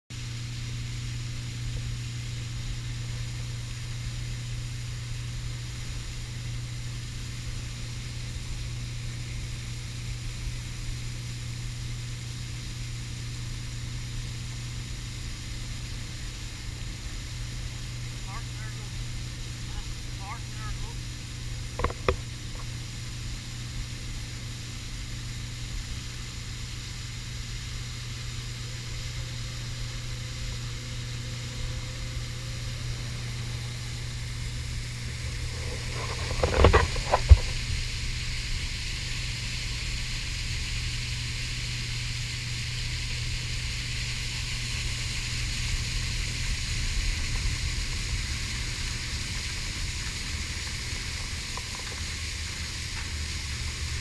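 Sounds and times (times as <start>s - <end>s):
outboard motor drone: 0.2s - 54.0s
water hiss: 0.2s - 54.0s.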